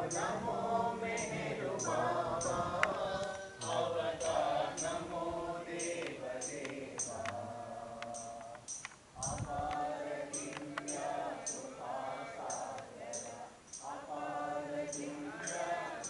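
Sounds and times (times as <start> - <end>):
voices chanting devotional song: 0.0 - 16.0.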